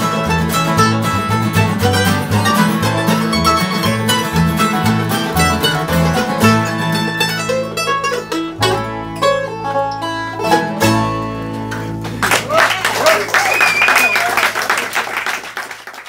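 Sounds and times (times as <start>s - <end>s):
bluegrass band playing: 0.0s - 13.0s.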